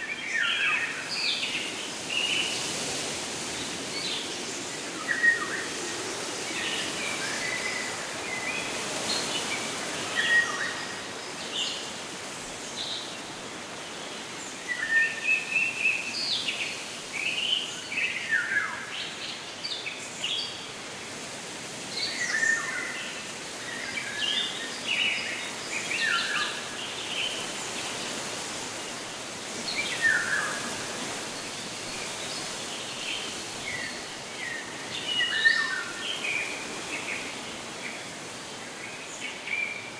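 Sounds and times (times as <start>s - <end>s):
steady rushing hiss: 0.8s - 18.2s, 19.2s - 39.9s.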